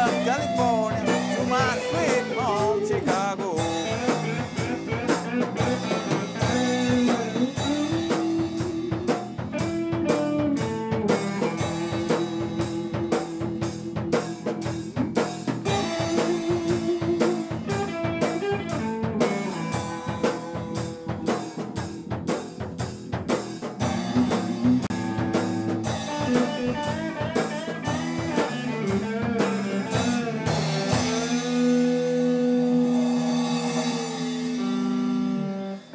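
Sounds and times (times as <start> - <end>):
drum kit: 0.0 - 35.9
rock band playing: 0.0 - 35.9.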